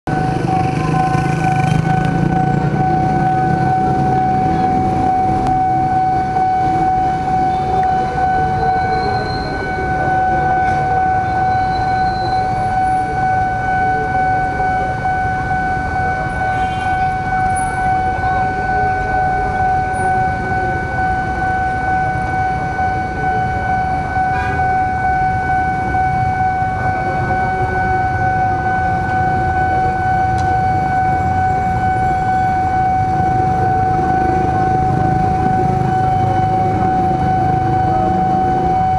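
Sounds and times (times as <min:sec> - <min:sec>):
level crossing alarm tone: 0:00.1 - 0:38.9
motorbike and car engines idling: 0:00.1 - 0:38.9.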